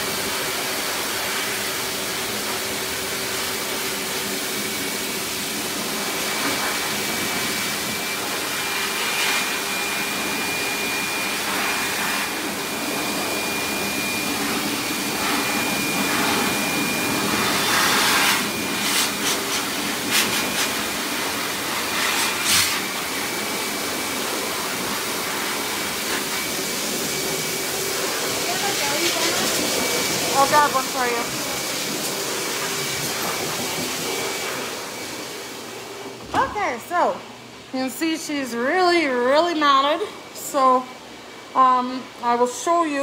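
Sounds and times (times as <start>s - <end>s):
pet dryer blowing air: 0.0s - 43.0s.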